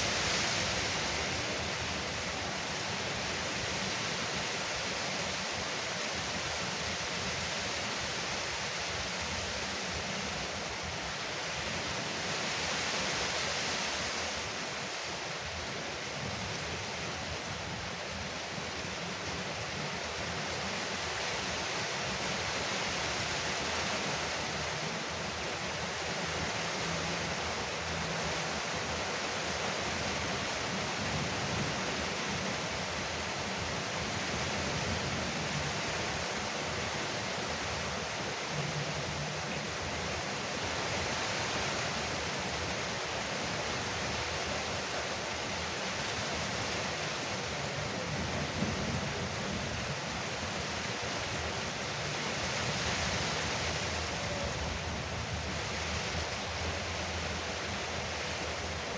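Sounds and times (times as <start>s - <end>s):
heavy rain on a roof: 0.0s - 58.9s.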